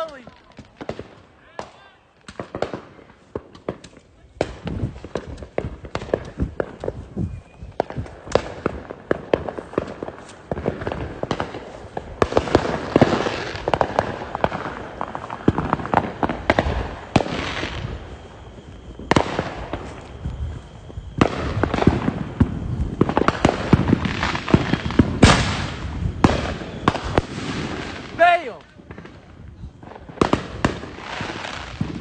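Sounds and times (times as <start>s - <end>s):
fireworks bangs: 0.0s - 32.0s
fireworks crackling pops: 0.0s - 32.0s.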